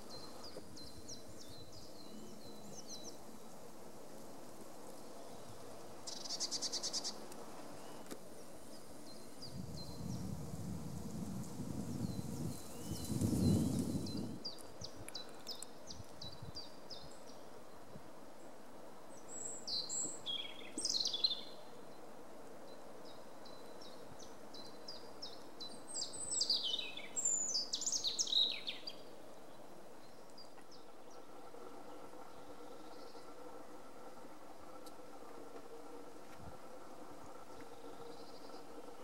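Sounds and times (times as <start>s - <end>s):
faint background hiss: 0.0s - 39.0s.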